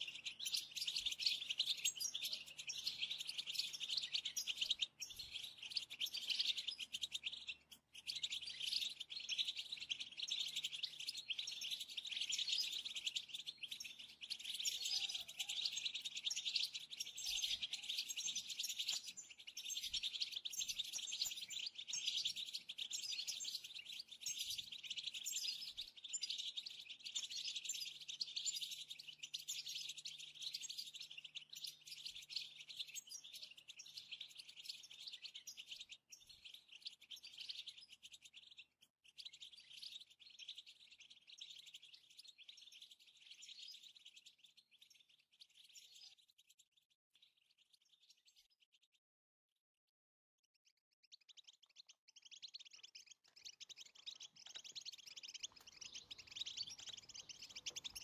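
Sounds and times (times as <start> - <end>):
birds twittering: 0.0 - 49.0, 50.6 - 58.0.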